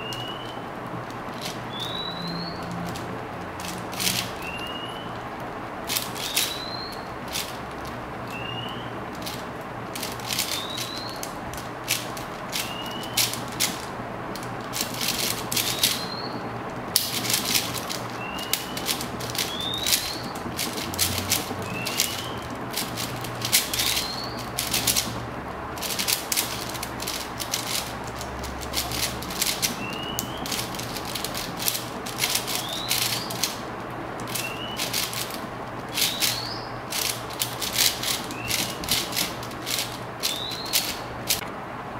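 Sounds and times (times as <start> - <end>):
puzzle cube plastic clicks: 0.0 - 2.0, 2.6 - 4.7, 5.8 - 8.4, 9.1 - 16.0, 16.8 - 25.2, 25.8 - 41.4.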